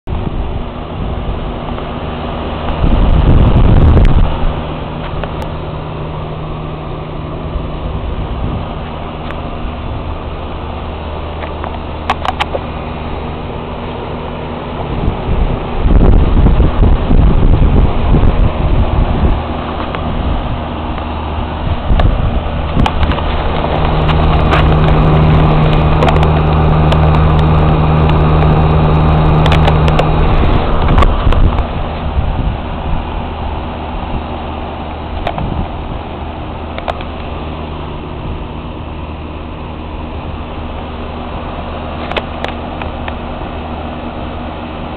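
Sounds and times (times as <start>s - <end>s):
air buffeting microphone: 0.0s - 44.9s
deeper louder hum: 0.0s - 44.9s
air conditioner unit humming: 0.1s - 44.9s.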